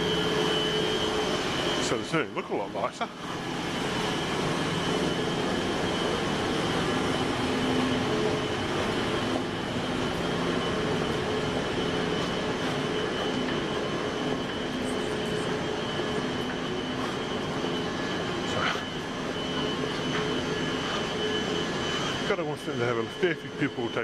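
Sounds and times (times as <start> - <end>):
electric train running noise: 0.0 - 24.0
steady hum: 0.0 - 24.0.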